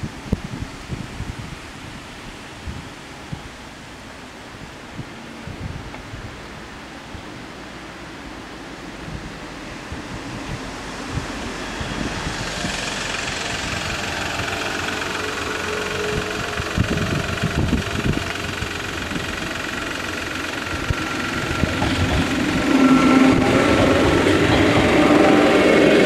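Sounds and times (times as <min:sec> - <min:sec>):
train on rails: 0:00.0 - 0:26.0.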